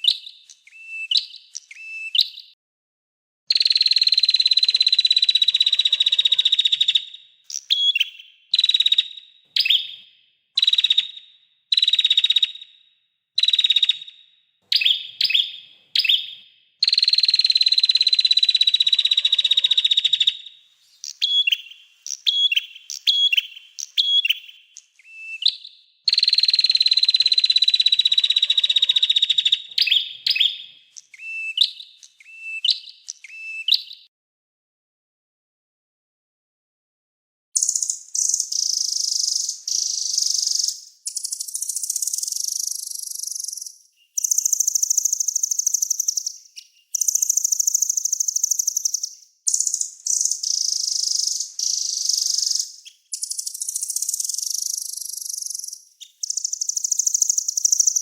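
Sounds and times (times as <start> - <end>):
songbird chirps: 0.0 - 2.6, 3.5 - 5.9, 6.5 - 19.2, 19.8 - 28.5, 29.1 - 34.1, 37.6 - 58.0.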